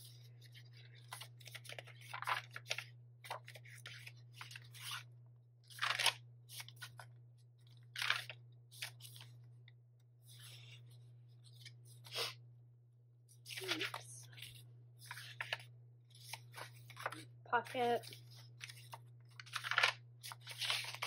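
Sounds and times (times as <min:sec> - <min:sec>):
paper pages turning: 0:00.0 - 0:09.5, 0:10.2 - 0:12.4, 0:13.3 - 0:21.0.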